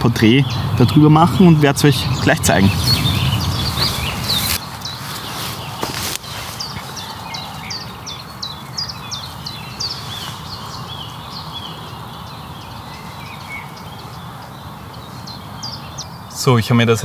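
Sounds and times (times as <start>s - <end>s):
songbirds chirping: 0.0s - 17.0s
steady background hiss: 0.0s - 17.0s.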